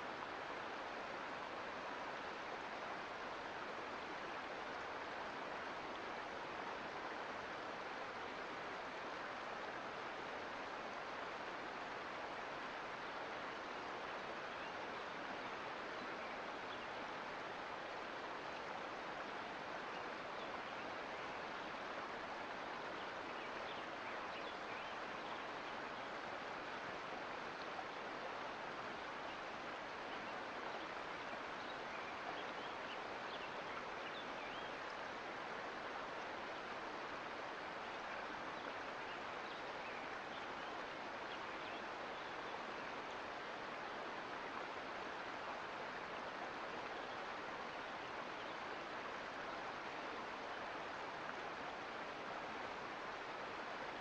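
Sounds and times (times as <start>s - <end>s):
creek water rushing and splashing: 0.0s - 54.0s.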